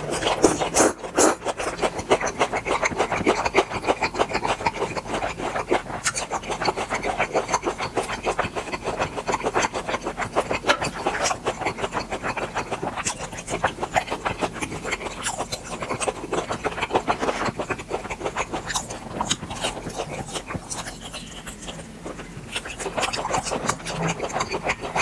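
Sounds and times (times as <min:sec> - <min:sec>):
wet crunchy chewing: 0:00.0 - 0:25.0.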